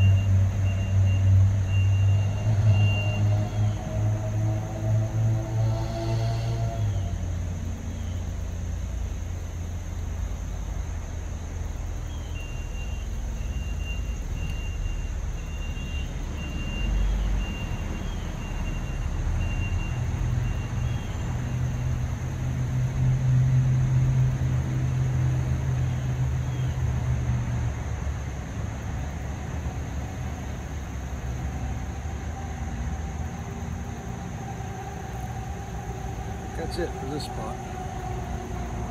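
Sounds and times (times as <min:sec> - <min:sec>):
rumble of passing vehicles: 0:00.0 - 0:38.9.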